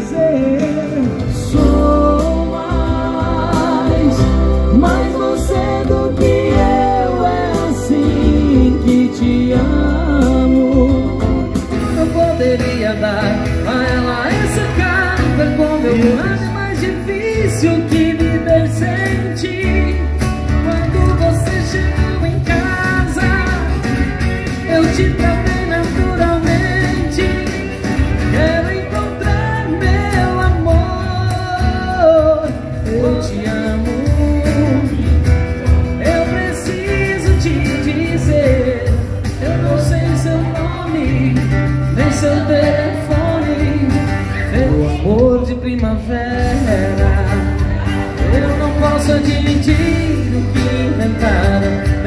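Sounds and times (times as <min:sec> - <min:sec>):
acoustic guitar: 0:00.0 - 0:52.0
deep bass notes: 0:00.0 - 0:52.0
man singing: 0:00.0 - 0:52.0.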